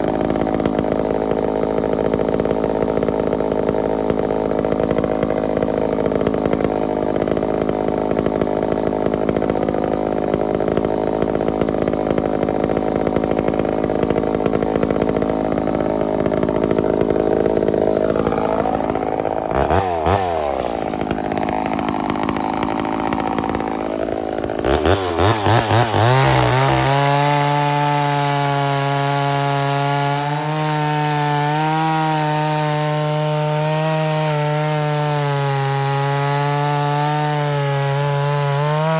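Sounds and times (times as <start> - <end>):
chainsaw cutting wood: 0.0 - 38.9
chainsaw high-pitched whine: 0.0 - 38.9.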